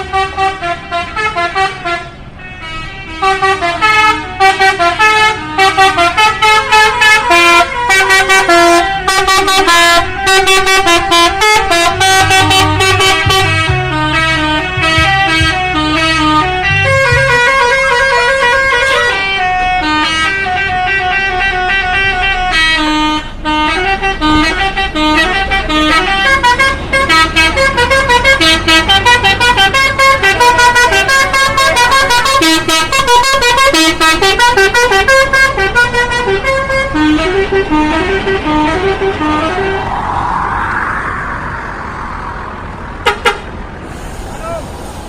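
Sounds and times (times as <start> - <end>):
multi-tone musical air horn: 0.0 - 40.0, 43.0 - 43.5.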